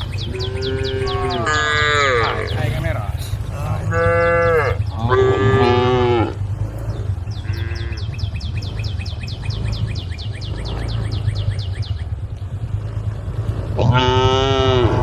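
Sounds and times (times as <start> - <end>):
cows mooing: 0.0 - 15.0.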